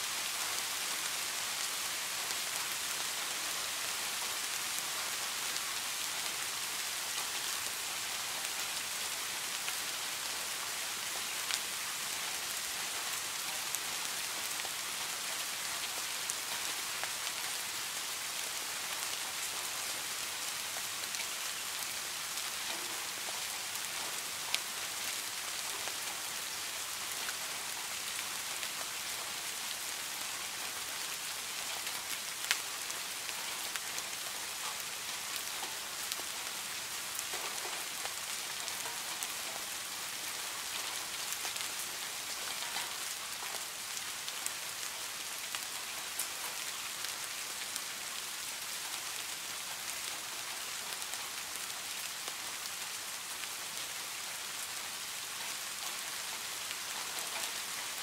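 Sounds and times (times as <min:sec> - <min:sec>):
rain hissing on pond water: 0:00.0 - 0:58.0.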